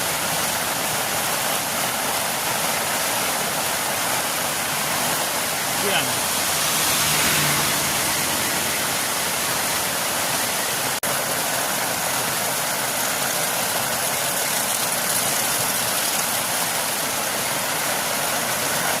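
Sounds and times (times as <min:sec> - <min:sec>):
torrential rain hissing: 0:00.0 - 0:19.0.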